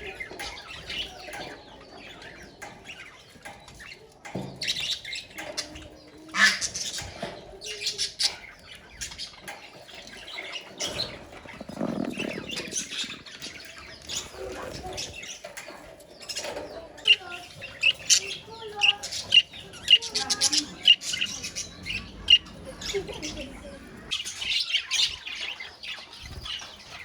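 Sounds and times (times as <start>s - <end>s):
budgerigars chattering and squawking: 0.0s - 27.0s.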